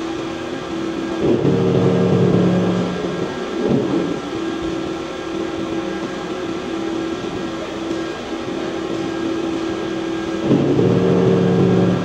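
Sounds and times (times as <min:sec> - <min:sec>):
industrial machinery hum: 0:00.0 - 0:12.0.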